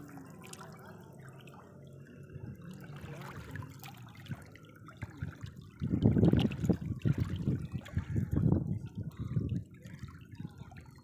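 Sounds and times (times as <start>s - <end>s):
fish splashing in shallow water: 0.0s - 11.0s.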